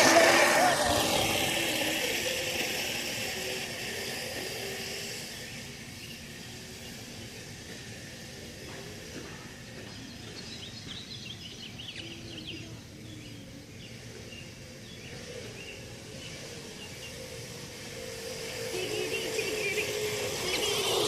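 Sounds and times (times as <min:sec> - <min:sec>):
birds chirping: 0:00.0 - 0:21.0
outdoor background noise: 0:00.0 - 0:21.0.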